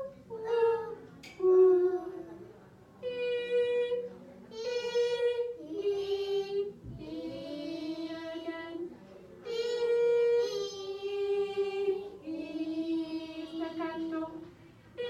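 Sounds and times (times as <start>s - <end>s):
children singing held notes: 0.0s - 15.0s.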